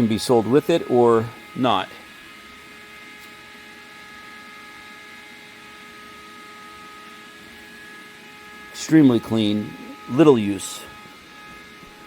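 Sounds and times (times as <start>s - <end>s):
faint steady whining tones: 0.0s - 12.0s
machine electrical and fan hum: 0.0s - 12.0s.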